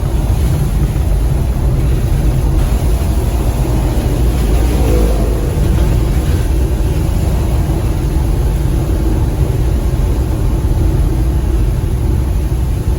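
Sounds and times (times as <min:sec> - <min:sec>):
van engine and road rumble: 0:00.0 - 0:12.9.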